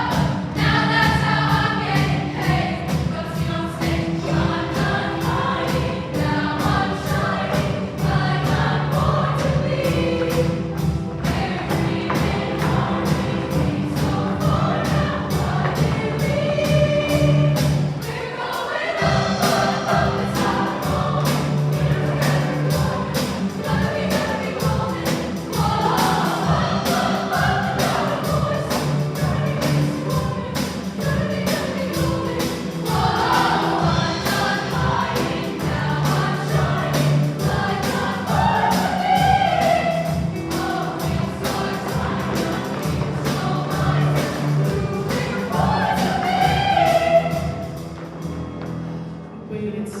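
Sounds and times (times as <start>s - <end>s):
choir singing: 0.0s - 47.9s
instrumental accompaniment with beat: 0.0s - 48.9s.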